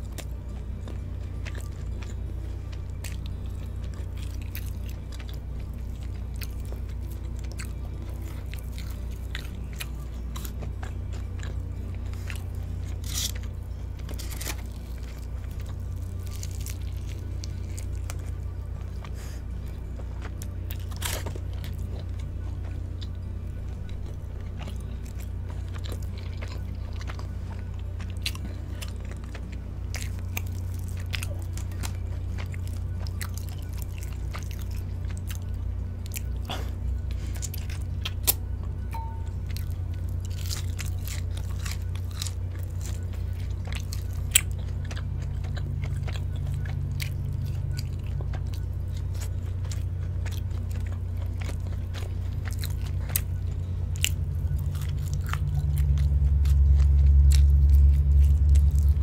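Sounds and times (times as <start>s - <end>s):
crunchy chewing: 0.0s - 59.0s
steady low hum: 0.0s - 59.0s.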